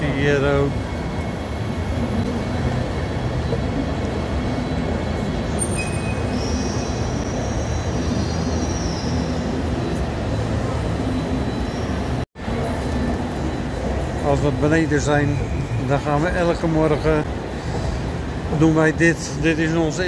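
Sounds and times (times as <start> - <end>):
train station rumble and hubbub: 0.0 - 20.0.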